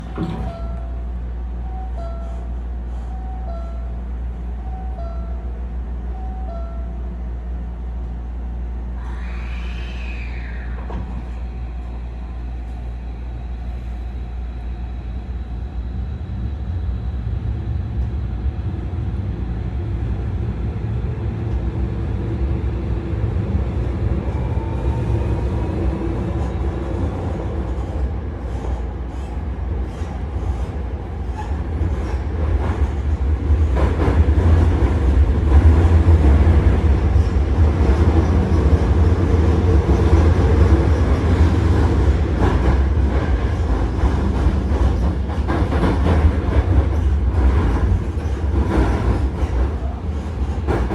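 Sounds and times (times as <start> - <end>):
electric train rumbling: 0.0 - 50.9.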